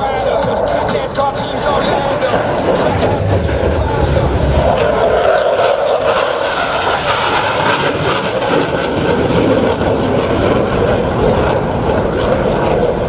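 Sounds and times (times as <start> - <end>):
jet roar passing over: 0.0 - 13.0.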